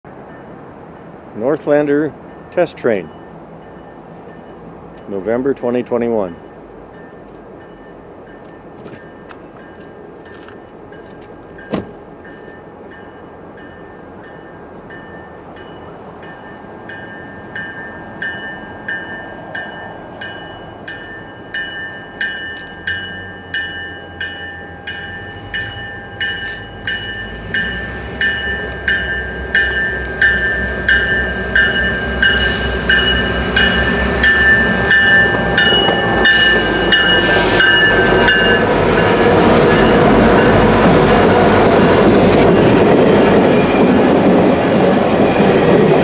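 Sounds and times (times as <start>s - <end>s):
locomotive bell ringing: 1.4s - 41.6s.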